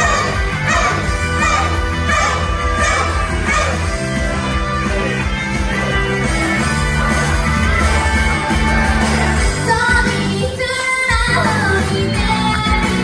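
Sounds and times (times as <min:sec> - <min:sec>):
pop song over sound system: 0:00.0 - 0:13.0.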